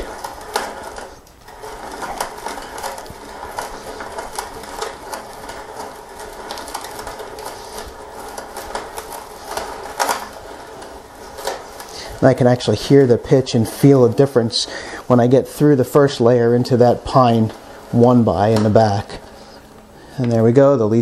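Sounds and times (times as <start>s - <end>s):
hand brace auger boring wood: 0.0s - 21.0s.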